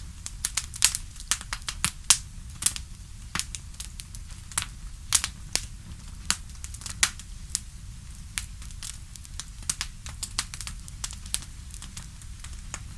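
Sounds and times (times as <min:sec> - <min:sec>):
fire crackling and popping: 0:00.0 - 0:12.9
low fire rumble: 0:00.0 - 0:12.9.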